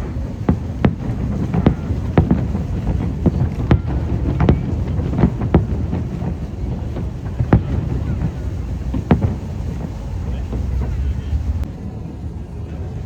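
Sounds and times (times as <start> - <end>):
fireworks bangs: 0.0 - 11.7
low rumble: 0.0 - 13.0.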